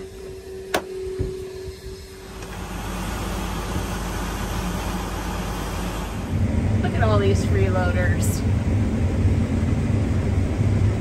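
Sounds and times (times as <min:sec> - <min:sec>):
steady hum: 0:00.0 - 0:11.0
vehicle engine running: 0:02.1 - 0:11.0.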